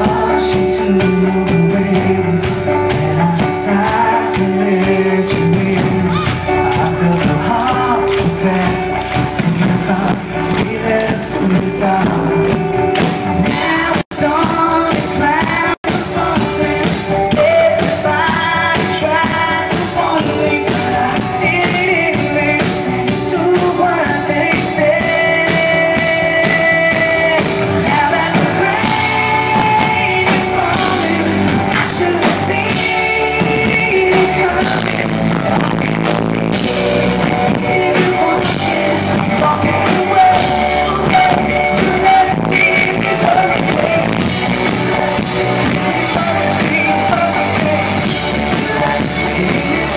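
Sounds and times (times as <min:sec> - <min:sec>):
drums steady beat: 0:00.0 - 0:49.9
guitars: 0:00.0 - 0:49.9
person singing: 0:00.0 - 0:49.9.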